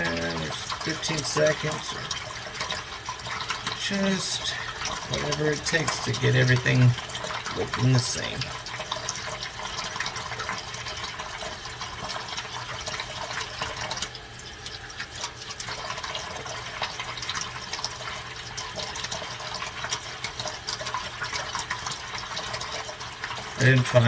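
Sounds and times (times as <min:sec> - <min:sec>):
tap water running: 0:00.0 - 0:24.0.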